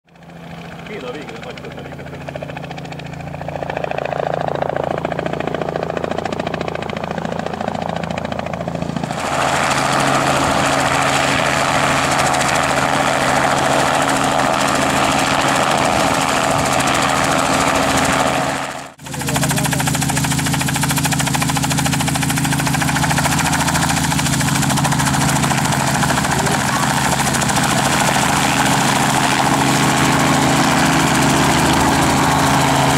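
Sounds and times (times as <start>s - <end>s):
helicopter rotor and engine: 0.1s - 32.9s.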